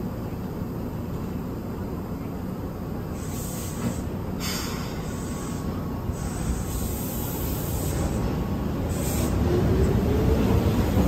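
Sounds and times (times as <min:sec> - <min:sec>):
train motors and wheels rumbling: 0:00.0 - 0:11.0.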